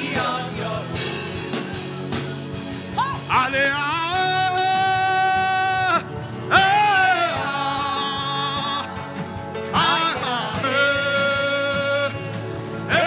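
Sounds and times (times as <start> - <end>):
instrumental backing music: 0.0 - 13.0.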